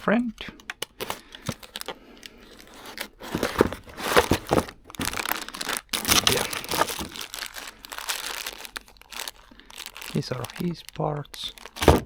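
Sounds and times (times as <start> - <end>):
packaging crinkling and tearing: 0.6 - 12.0.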